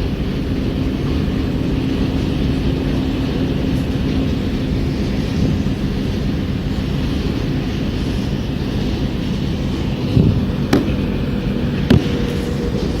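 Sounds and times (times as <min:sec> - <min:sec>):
washing machines rumbling: 0:00.0 - 0:13.0.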